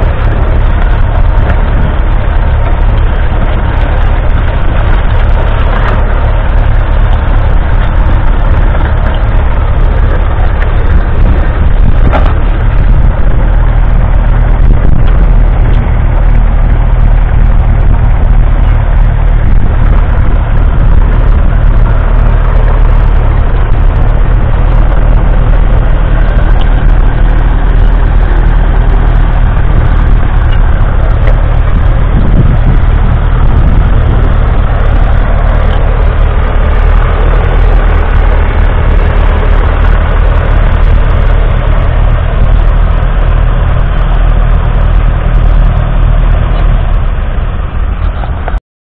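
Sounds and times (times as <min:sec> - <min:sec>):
tractor diesel engine under load: 0:00.0 - 0:48.6.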